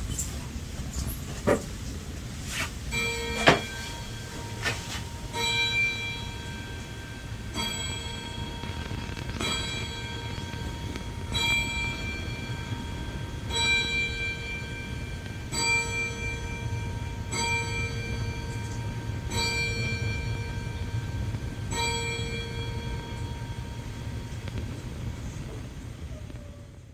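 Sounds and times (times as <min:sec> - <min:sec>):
metal bell struck: 0:02.9 - 0:25.1.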